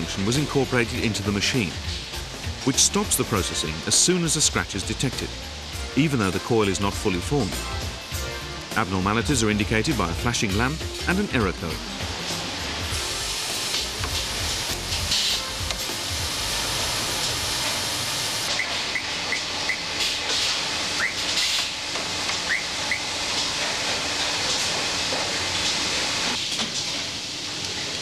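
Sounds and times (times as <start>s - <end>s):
machinery hissing: 0.0s - 28.0s.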